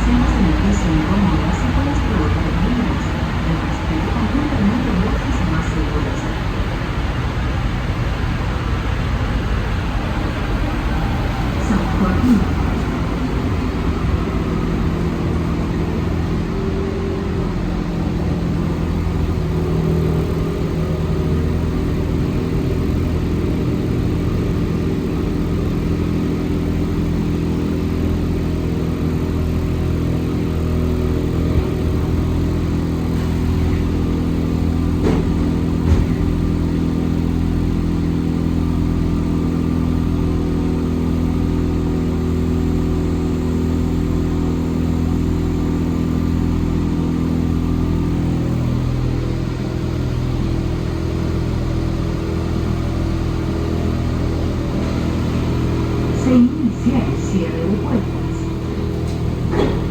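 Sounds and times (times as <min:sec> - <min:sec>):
train rolling noise: 0:00.0 - 0:28.6, 0:29.2 - 0:59.9
traction motors humming: 0:00.0 - 0:59.9.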